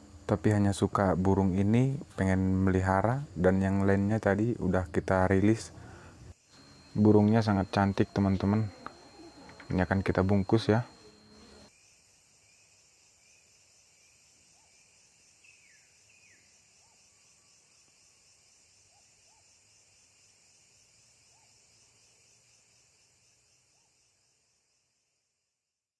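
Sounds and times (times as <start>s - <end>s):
high insect drone: 0.0s - 25.7s.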